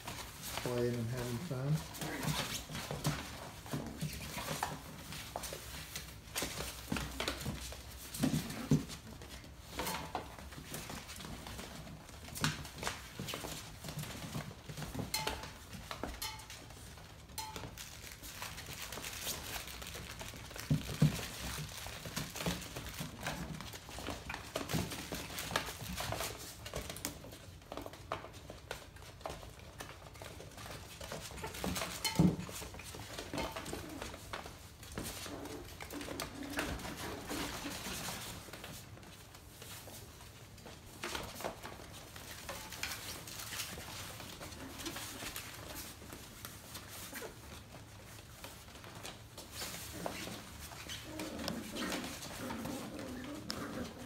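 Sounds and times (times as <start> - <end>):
puppy paws clicking on hard floor: 0.0 - 54.0
toys being pushed about: 0.0 - 54.0.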